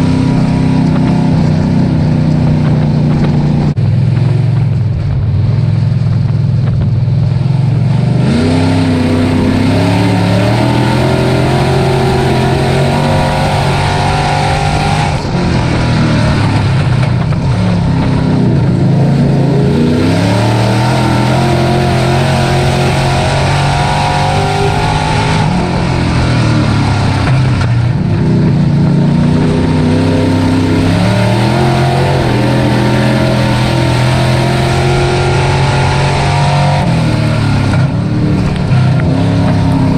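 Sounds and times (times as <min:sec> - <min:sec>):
race truck engine accelerating: 0:00.0 - 0:39.9.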